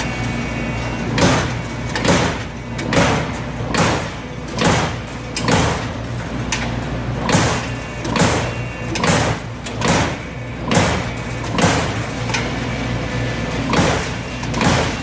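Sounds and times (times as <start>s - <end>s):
machine hum: 0.0s - 15.0s
punch press machine surges: 0.0s - 15.0s.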